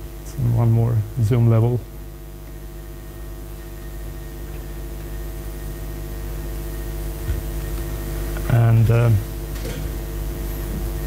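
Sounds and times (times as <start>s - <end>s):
low room hum with hiss: 0.0s - 11.0s.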